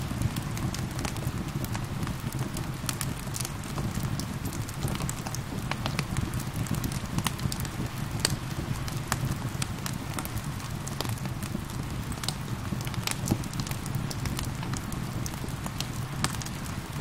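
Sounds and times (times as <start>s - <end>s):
rain patter: 0.0s - 17.0s
wood fire crackling and popping: 0.0s - 17.0s.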